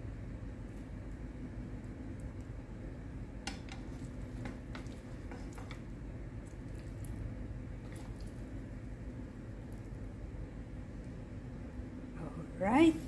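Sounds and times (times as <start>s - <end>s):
steady low hum: 0.0s - 13.0s
light clicks and soft squishes: 0.5s - 11.8s.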